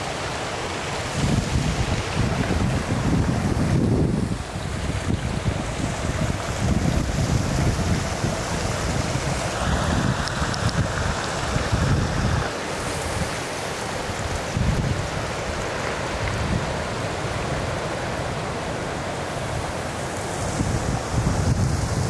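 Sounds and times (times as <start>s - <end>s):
surf breaking on rocks: 0.0s - 22.0s
waterfall: 0.0s - 22.0s
wind gusting on microphone: 0.0s - 22.0s.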